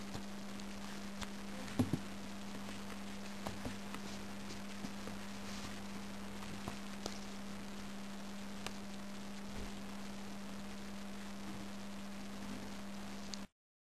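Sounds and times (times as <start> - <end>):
background hiss: 0.0 - 13.5
low electrical hum: 0.0 - 13.5.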